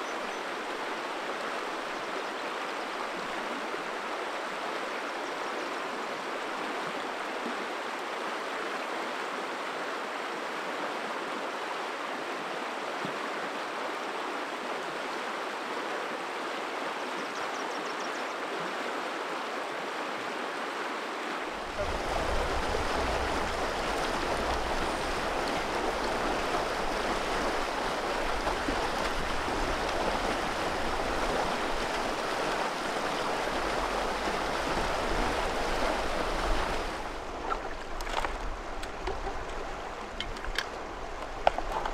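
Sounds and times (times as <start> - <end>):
river water rushing: 0.0 - 17.3, 18.4 - 41.9.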